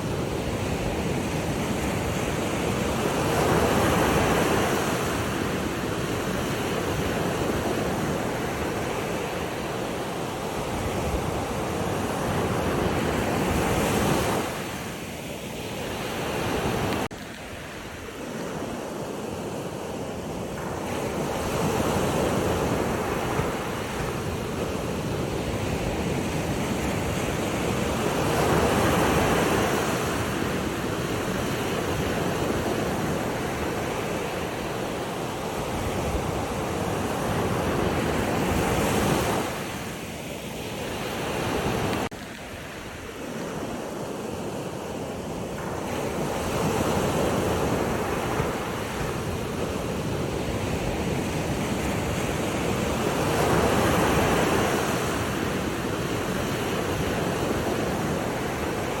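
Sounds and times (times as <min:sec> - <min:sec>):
waves washing in: 0:00.0 - 0:59.0.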